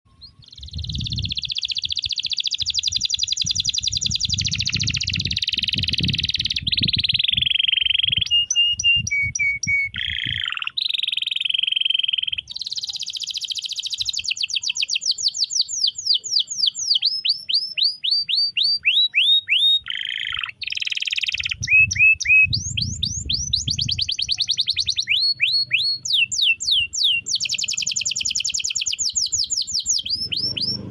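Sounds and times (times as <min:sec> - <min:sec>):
canary singing: 0:00.1 - 0:30.9.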